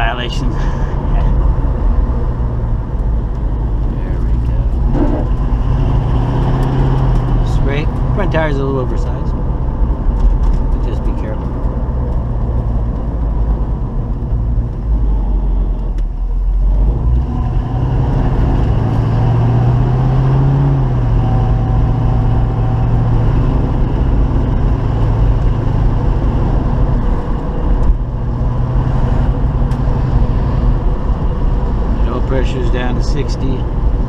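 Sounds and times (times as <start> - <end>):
car engine running: 0.0 - 34.0
road rumble: 0.0 - 34.0.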